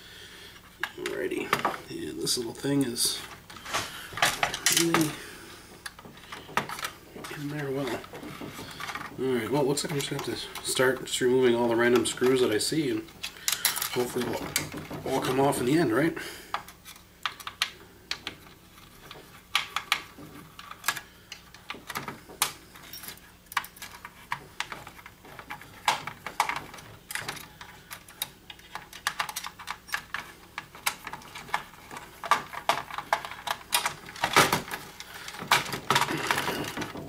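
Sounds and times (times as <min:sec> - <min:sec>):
plastic parts and wires handled: 0:00.6 - 0:37.0.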